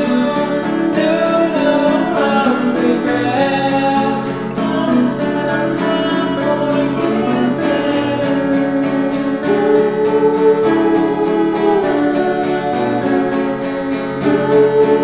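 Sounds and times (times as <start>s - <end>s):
guitar: 0.0s - 15.0s
people singing: 0.0s - 15.0s.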